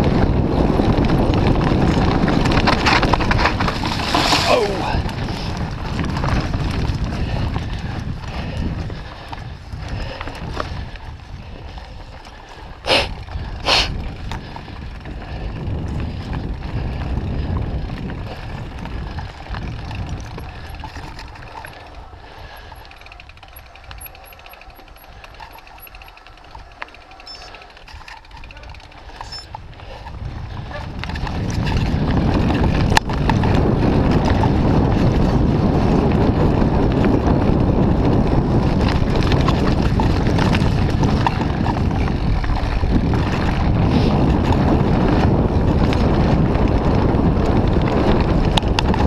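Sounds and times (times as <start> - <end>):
mountain bike rattling over dirt: 0.0 - 49.0
wind on microphone: 0.0 - 49.0.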